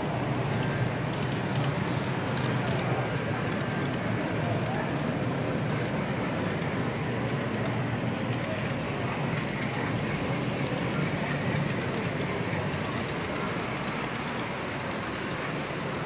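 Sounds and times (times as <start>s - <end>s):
model trains running: 0.0s - 16.0s.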